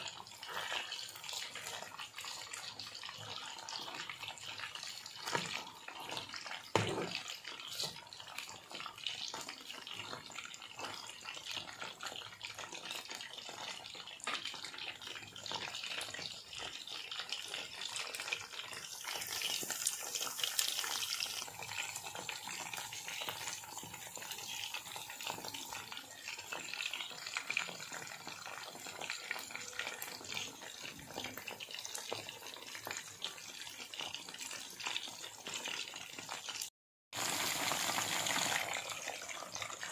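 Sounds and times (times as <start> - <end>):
deep-frying sizzle with pops: 0.0 - 39.9.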